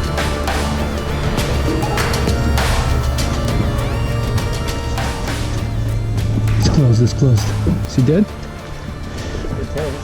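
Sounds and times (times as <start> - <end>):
music with heavy bass: 0.0 - 10.0.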